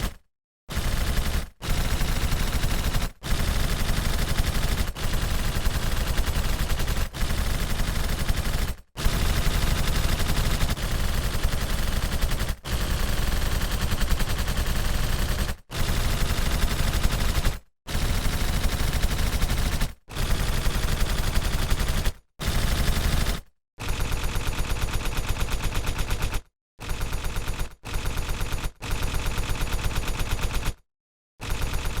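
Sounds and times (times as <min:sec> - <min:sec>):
machine-gun fire bursts: 0:00.0 - 0:30.8, 0:31.4 - 0:32.0.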